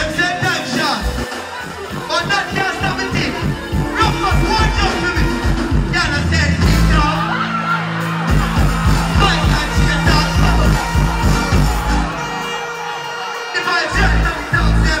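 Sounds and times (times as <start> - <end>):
dancehall music with heavy bass: 0.0 - 15.0.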